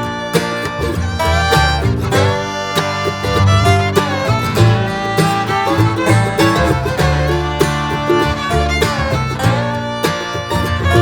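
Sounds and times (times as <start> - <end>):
acoustic guitar: 0.0 - 11.0
fiddle: 0.0 - 11.0.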